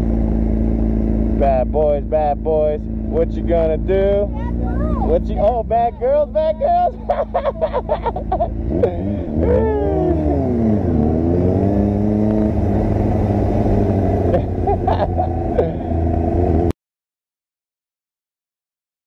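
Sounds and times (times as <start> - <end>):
motorcycle engine accelerating: 0.0 - 16.7.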